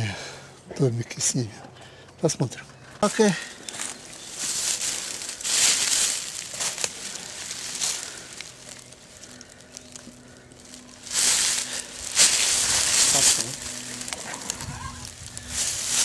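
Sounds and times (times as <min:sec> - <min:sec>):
leaves and twigs crunching underfoot: 0:03.0 - 0:16.0.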